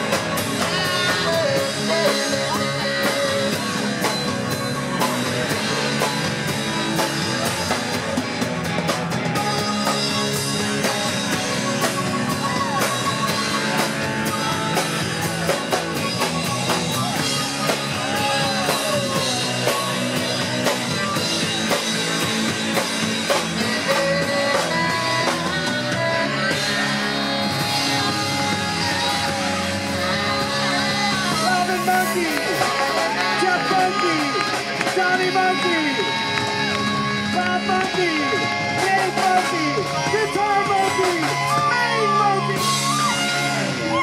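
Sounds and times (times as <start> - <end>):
person singing: 0.0 - 6.1, 9.2 - 44.0
drum kit beat: 0.0 - 44.0
electric guitars: 0.0 - 44.0.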